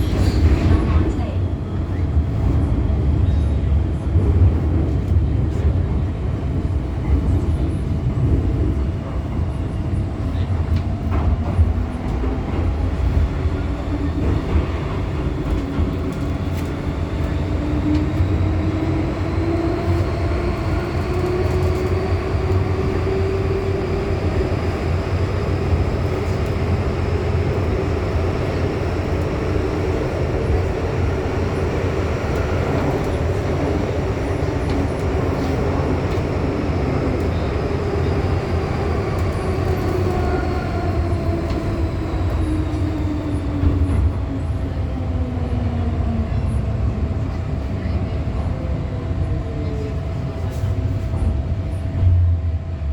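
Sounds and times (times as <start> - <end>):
metro train rumble and whine: 0.0 - 52.9.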